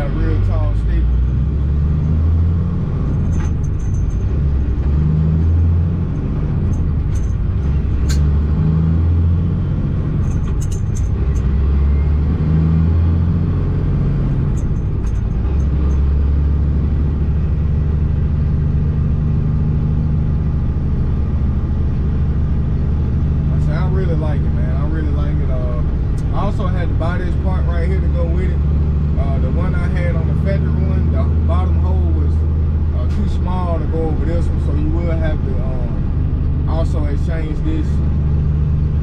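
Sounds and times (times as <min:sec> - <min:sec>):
truck engine droning: 0:00.0 - 0:39.0.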